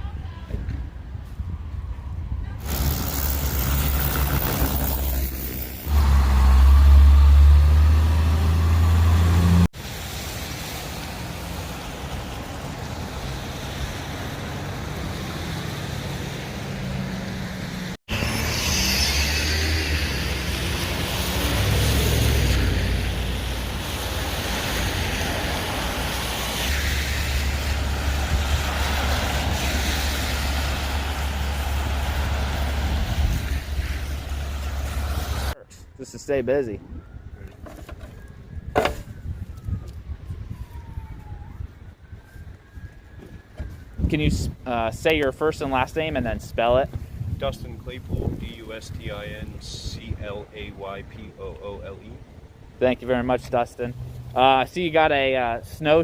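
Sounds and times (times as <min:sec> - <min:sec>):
road vehicles engine rumble: 0:00.0 - 0:56.0.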